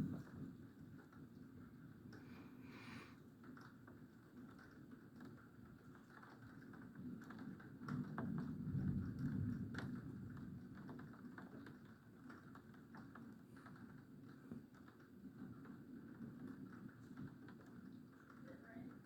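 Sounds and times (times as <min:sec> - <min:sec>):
raindrops pattering: 0:03.2 - 0:19.0.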